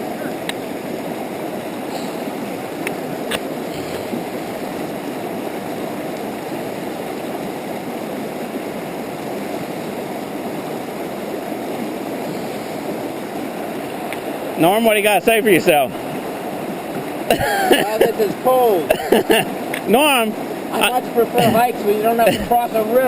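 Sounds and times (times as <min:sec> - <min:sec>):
river rushing: 0:00.0 - 0:23.0.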